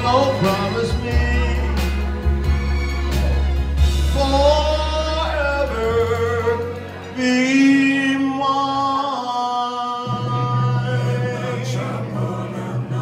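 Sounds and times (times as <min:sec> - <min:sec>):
man singing a slow ballad: 0:00.0 - 0:02.8, 0:03.7 - 0:13.0
backing music through speaker: 0:00.0 - 0:13.0.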